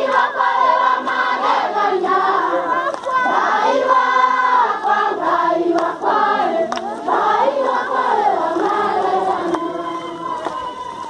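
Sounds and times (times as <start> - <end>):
crowd singing together: 0.0 - 11.0.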